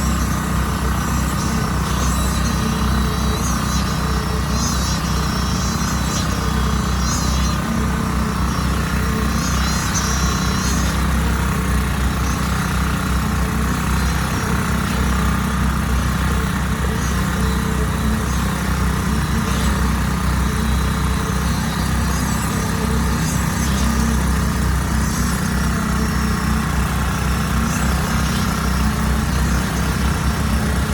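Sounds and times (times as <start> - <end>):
machinery engine droning: 0.0 - 30.9.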